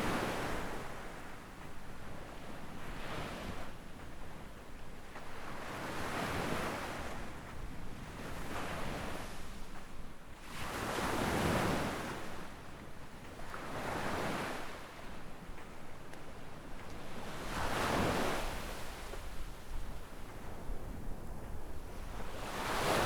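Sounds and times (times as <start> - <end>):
gentle waves washing up a beach: 0.0 - 23.0.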